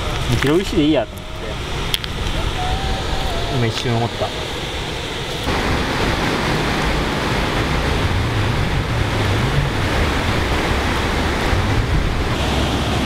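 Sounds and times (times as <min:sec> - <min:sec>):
river water rushing over weir: 0:00.0 - 0:13.0
wind buffeting microphone: 0:00.0 - 0:13.0.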